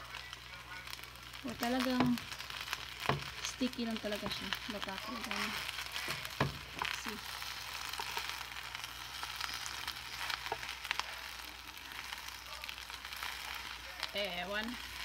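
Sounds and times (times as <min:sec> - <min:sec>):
rice sizzling in a frying pan: 0:00.0 - 0:15.0.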